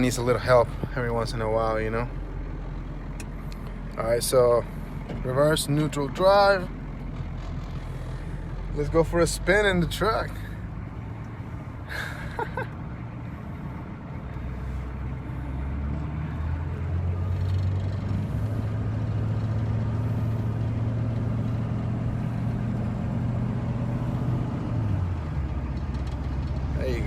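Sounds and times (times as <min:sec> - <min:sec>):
diesel truck pulling away: 0:00.0 - 0:27.0.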